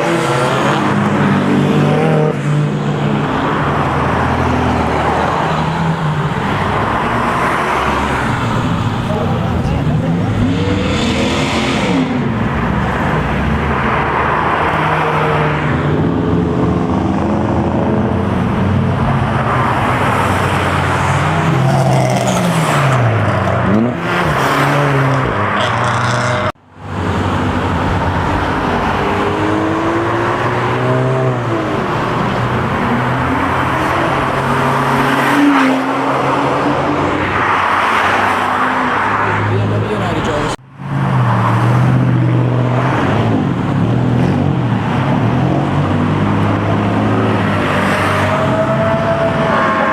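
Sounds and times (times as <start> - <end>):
cars revving and accelerating past: 0.0 - 49.9.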